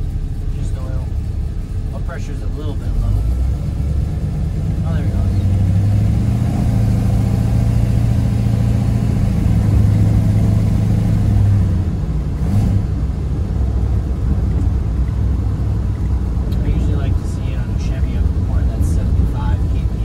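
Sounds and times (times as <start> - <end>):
car engine low hum: 0.0 - 20.0.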